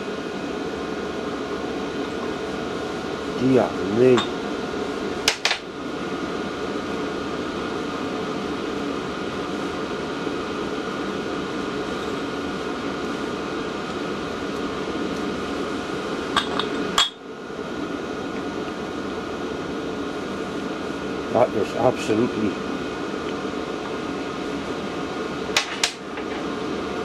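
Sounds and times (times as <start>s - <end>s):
air heater droning: 0.0s - 27.0s.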